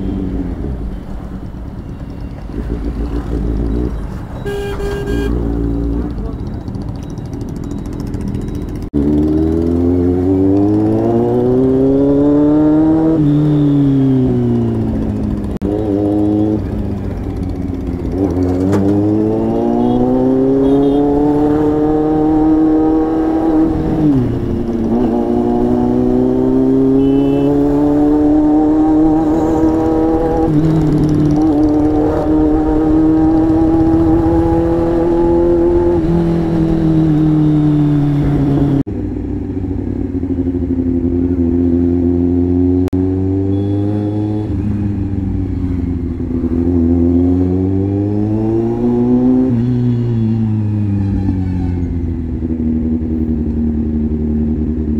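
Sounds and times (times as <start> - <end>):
motorcycle engine revving: 2.1 - 54.9.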